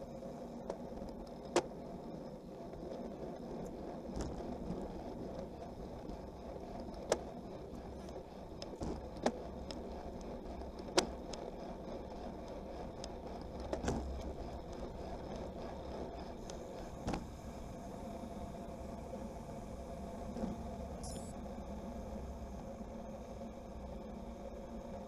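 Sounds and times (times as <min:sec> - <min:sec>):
bike road noise rumble: 0:00.0 - 0:25.0.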